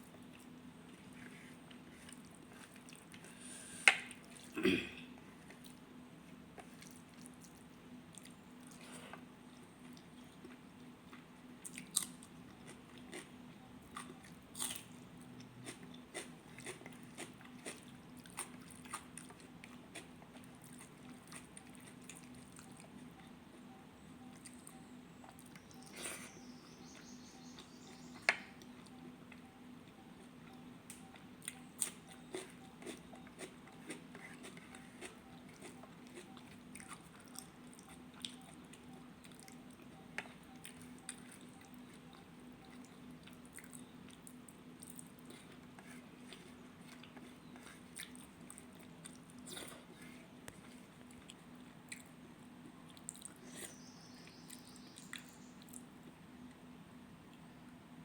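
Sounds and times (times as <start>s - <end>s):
person chewing food: 0.1s - 4.6s, 6.5s - 23.4s, 24.3s - 53.8s.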